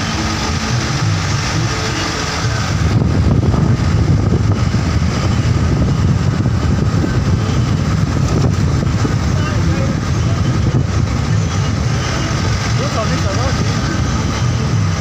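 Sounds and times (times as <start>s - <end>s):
vehicle engine and road noise: 0.0s - 15.0s
wind on microphone: 0.0s - 15.0s.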